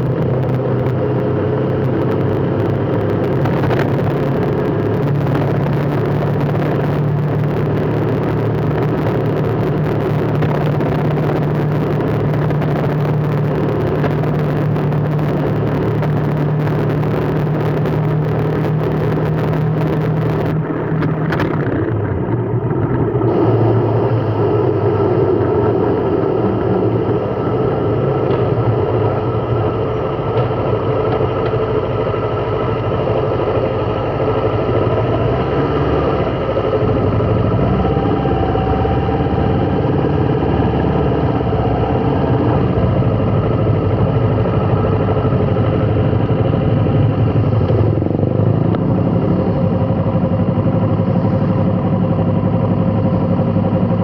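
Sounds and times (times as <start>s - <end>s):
road noise hiss: 0.0s - 54.0s
vehicle engine running: 0.0s - 54.0s.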